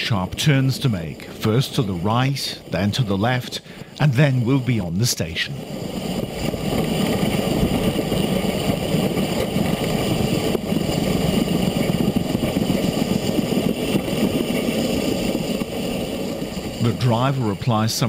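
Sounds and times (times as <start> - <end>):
steam locomotive rumbling: 0.0 - 18.0.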